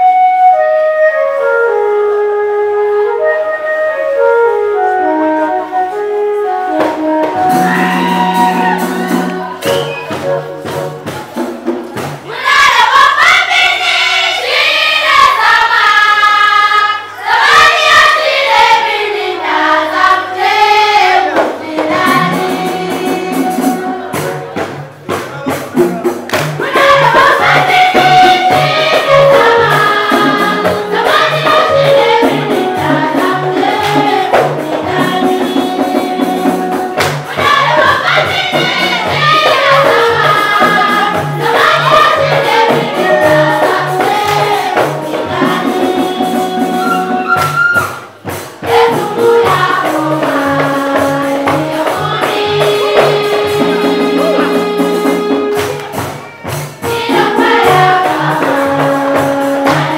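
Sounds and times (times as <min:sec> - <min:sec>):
instrumental backing with bass: 0:00.0 - 0:59.9
choir singing gospel song: 0:04.3 - 0:24.9, 0:26.0 - 0:56.2, 0:56.8 - 0:59.9.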